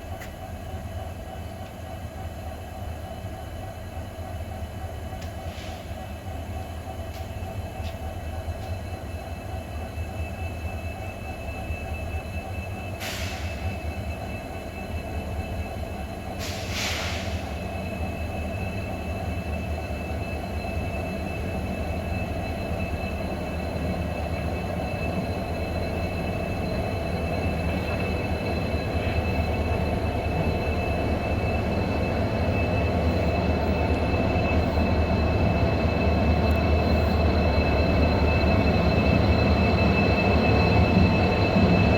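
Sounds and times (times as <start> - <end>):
train rumble: 0.0 - 41.9.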